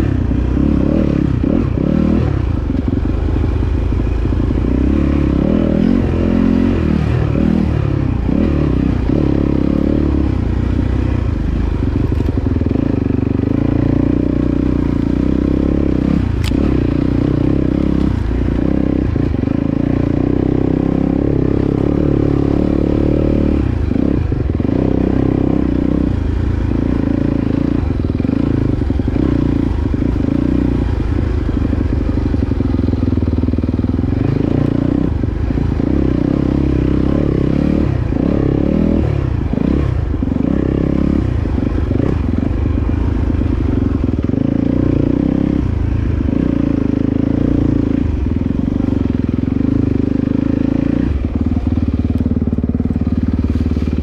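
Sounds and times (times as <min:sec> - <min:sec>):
dirt bike engine revving: 0:00.0 - 0:03.5, 0:04.4 - 0:11.2, 0:12.6 - 0:54.0.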